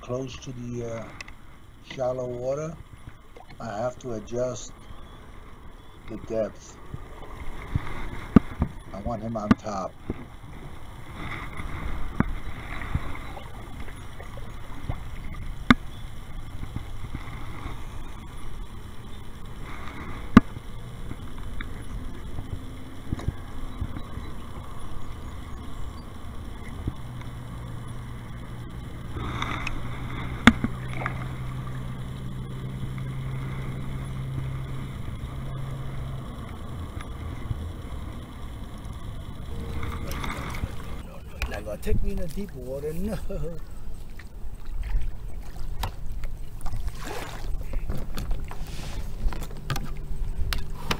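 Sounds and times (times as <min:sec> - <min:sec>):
low rumbling handling noise: 0:00.0 - 0:50.9
low steady hum: 0:00.0 - 0:50.9
water against kayak hull: 0:00.0 - 0:50.9.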